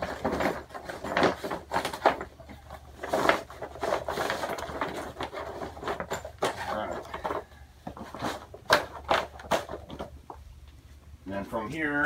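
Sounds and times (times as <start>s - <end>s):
fabric rustling and crinkling: 0.0s - 10.4s.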